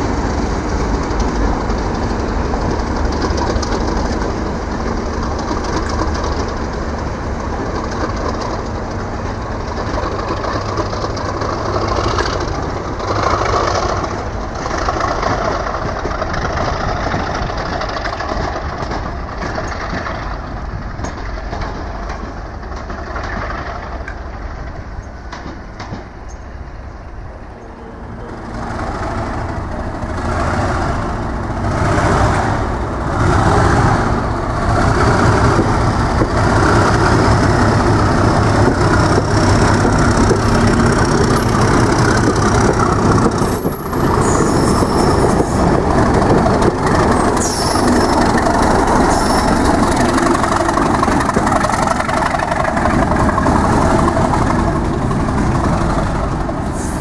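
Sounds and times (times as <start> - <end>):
train coaches rolling past: 0.0 - 57.0.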